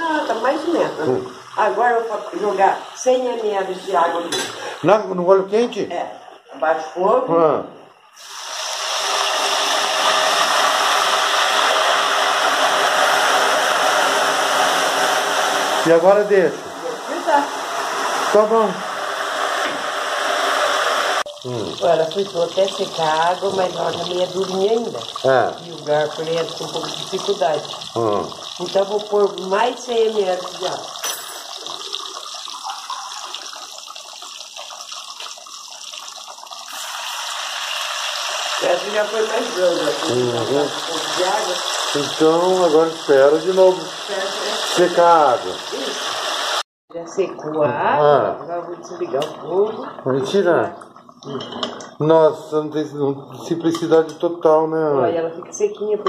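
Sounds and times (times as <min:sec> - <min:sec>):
oil sizzling loudly: 0:00.0 - 0:07.0, 0:07.9 - 0:46.7.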